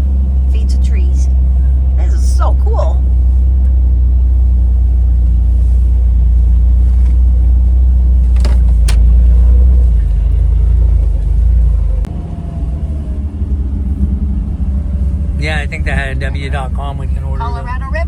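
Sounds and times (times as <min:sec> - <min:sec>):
vehicle rumbling on rocky trail: 0:00.0 - 0:18.0.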